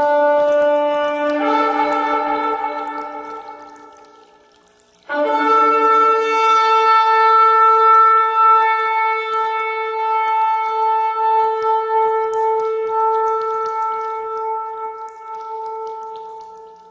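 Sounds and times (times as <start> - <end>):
shofar blowing a long note: 0.0 - 4.4, 5.0 - 16.9.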